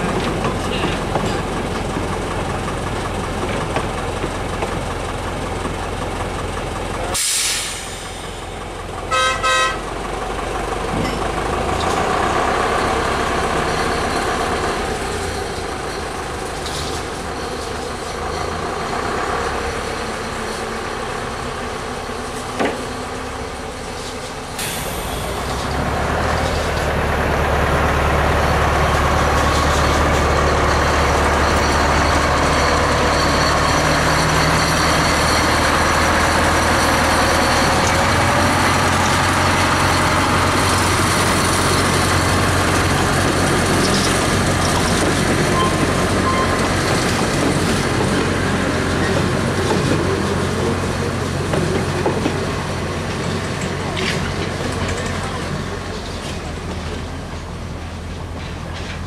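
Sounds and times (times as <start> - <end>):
freight wagons rolling on track: 0.0 - 7.2, 9.9 - 59.0
locomotive diesel engine running: 0.0 - 59.0.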